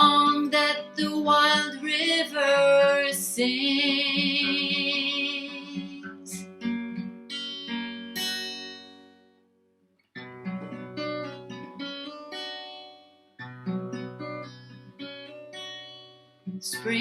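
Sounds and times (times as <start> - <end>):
acoustic guitar strumming chords: 0.0 - 9.5, 10.2 - 17.0.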